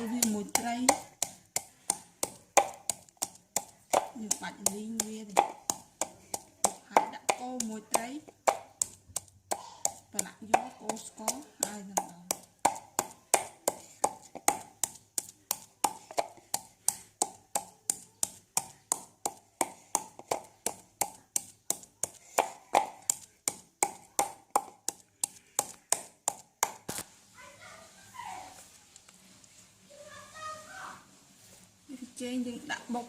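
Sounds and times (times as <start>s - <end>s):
knife chopping on wooden board: 0.0s - 27.0s.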